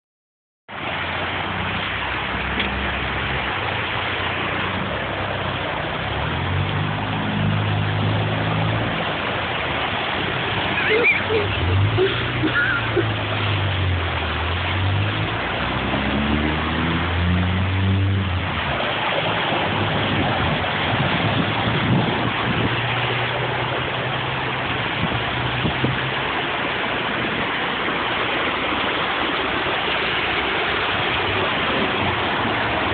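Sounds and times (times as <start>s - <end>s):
rushing floodwater: 0.7s - 32.9s.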